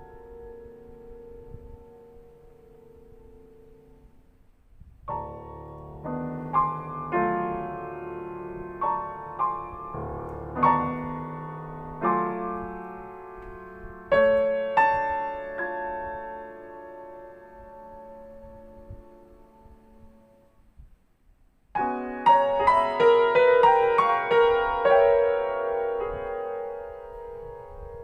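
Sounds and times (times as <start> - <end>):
solo piano chords: 0.0 - 20.8, 21.7 - 28.0.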